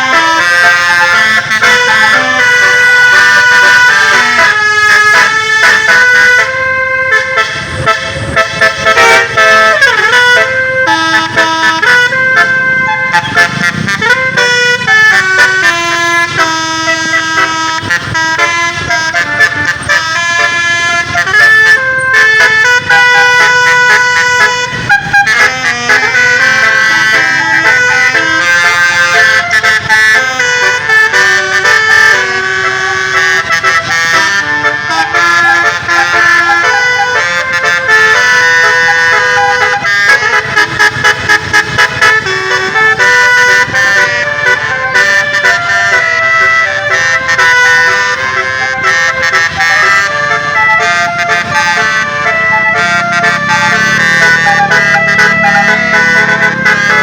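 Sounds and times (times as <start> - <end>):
musical air horns playing melodies: 0.0 - 57.0.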